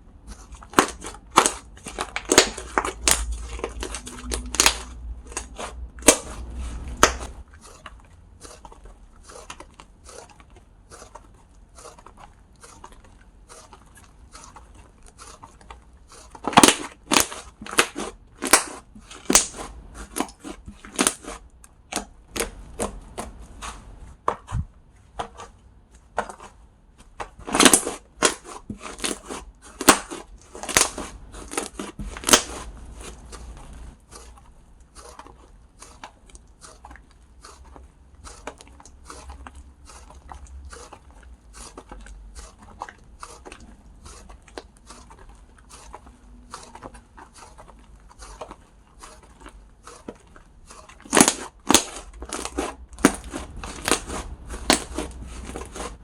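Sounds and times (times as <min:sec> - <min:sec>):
slime crackling and popping: 0:00.3 - 0:23.8, 0:27.2 - 0:56.0.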